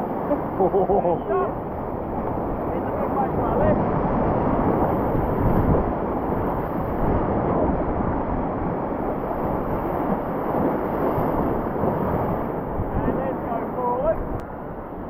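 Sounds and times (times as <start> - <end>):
whitewater rushing: 0.0 - 14.8.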